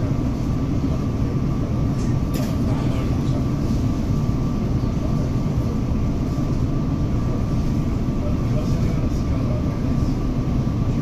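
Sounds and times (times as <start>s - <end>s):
train car rumble: 0.0s - 11.0s.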